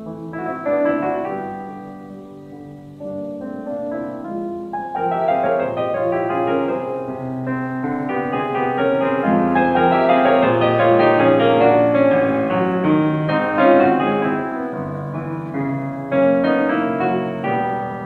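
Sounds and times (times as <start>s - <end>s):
loud piano chord: 0.0s - 18.0s
piano music: 0.0s - 18.0s.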